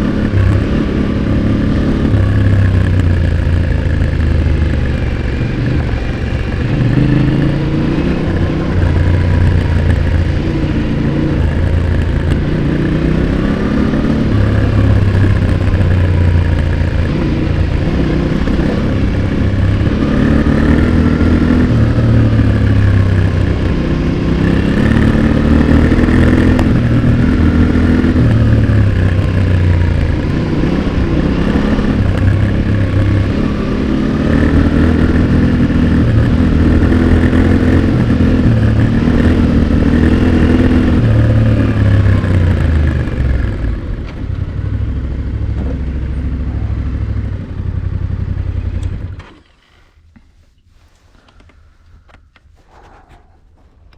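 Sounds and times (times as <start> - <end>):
motorcycle exhaust revving: 0.0 - 49.2.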